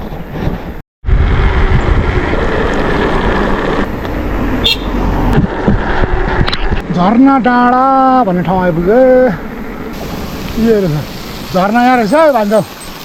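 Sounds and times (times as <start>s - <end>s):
road noise rumble: 0.0s - 13.0s.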